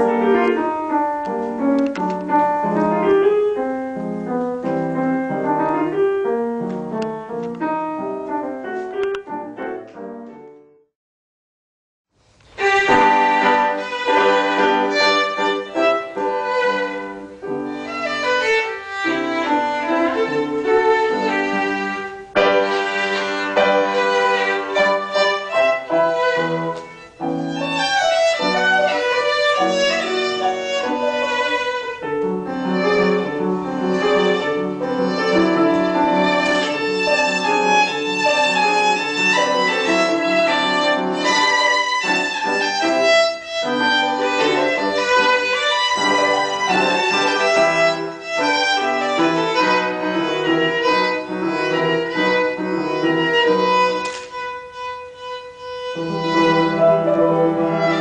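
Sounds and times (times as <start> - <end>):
violin playing classical melody: 0.0 - 5.8, 12.4 - 58.0
piano accompaniment: 0.0 - 10.9, 12.2 - 58.0.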